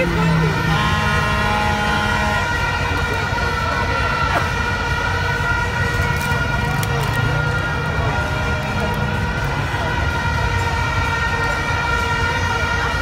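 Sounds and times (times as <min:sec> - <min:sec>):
crowd voices: 0:00.0 - 0:13.0.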